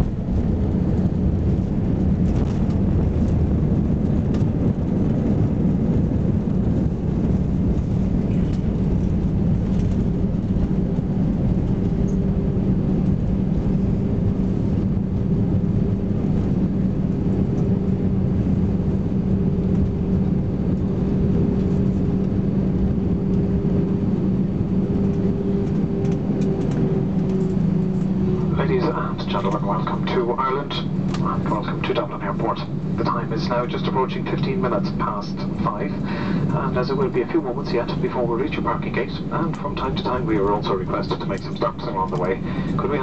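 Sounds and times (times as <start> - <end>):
aircraft cabin rumble: 0.0 - 43.0
jet engines humming: 0.0 - 43.0.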